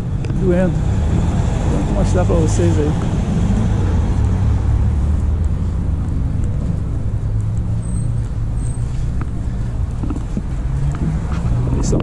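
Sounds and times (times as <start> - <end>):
motor vehicle running nearby: 0.0 - 12.0
street traffic rumble: 0.0 - 12.0.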